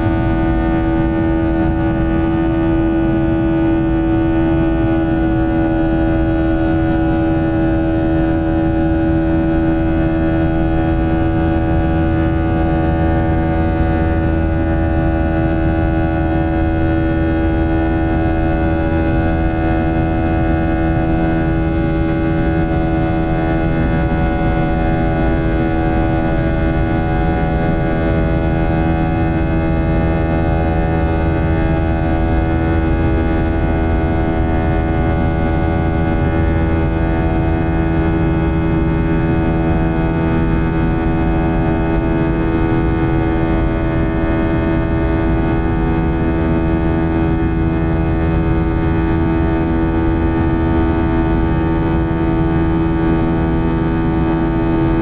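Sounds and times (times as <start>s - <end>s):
jet engine buzzsaw drone: 0.0s - 55.0s.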